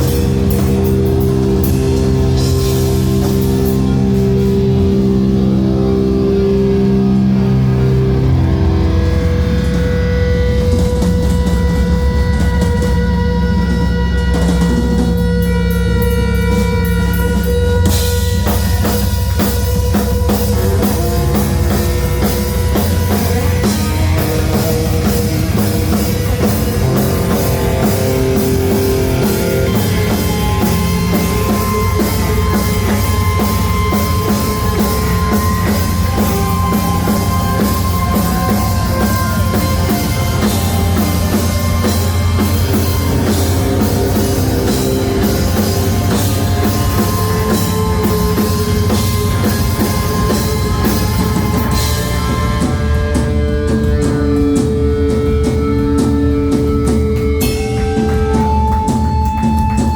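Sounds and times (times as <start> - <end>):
drum kit rock beat: 0.0 - 59.9
live rock band playing: 0.0 - 59.9.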